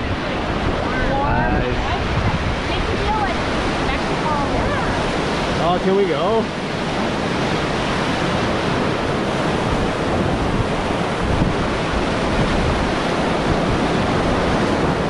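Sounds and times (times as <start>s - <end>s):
whitewater river rushing: 0.0s - 15.0s.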